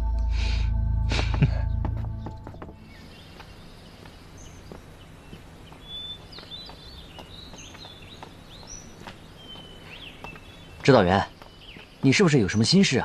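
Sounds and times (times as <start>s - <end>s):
small birds chirping: 1.1s - 13.0s.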